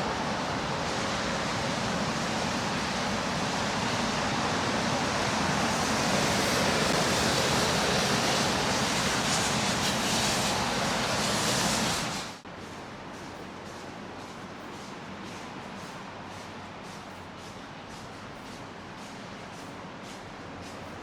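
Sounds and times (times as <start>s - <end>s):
loud steady rushing noise: 0.0s - 21.0s.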